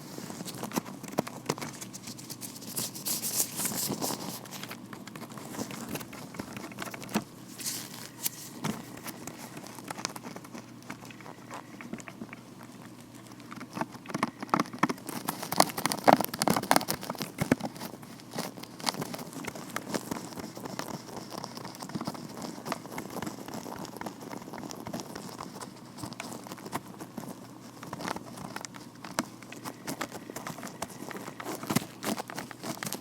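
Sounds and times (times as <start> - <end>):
gloves crinkling and rubbing: 0.0 - 33.0.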